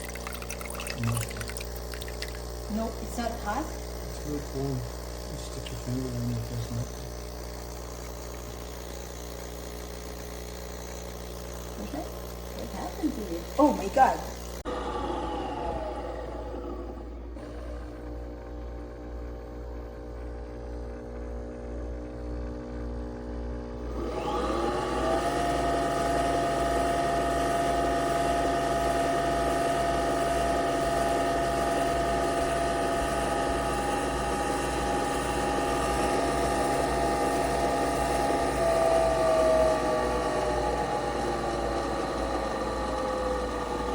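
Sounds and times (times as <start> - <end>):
small appliance motor whining: 0.0 - 43.9.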